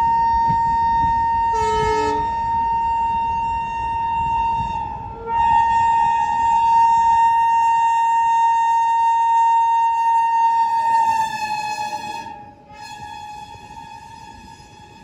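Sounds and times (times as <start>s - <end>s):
train horn blast: 0.2s - 15.0s.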